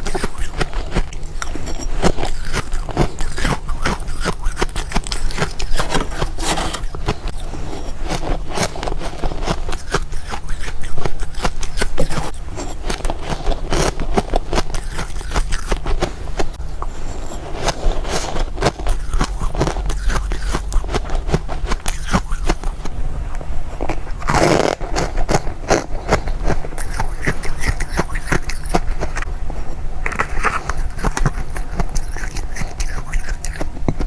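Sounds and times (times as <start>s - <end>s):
frost being chewed and crunched: 0.0s - 34.0s.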